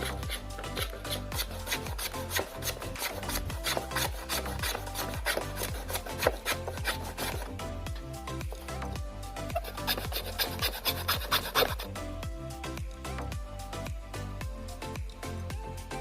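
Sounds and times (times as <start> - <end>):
background music with bass line: 0.0 - 16.0
rhythmic rasping strokes: 0.0 - 16.0.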